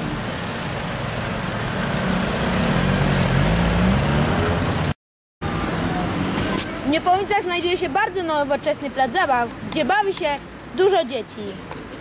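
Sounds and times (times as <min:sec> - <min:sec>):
cars driving past: 0:00.0 - 0:09.7.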